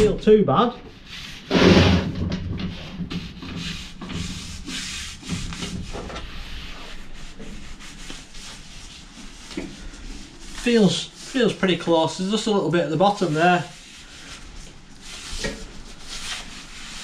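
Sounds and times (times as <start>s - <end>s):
gloved hands rubbing steel: 3.2s - 17.0s.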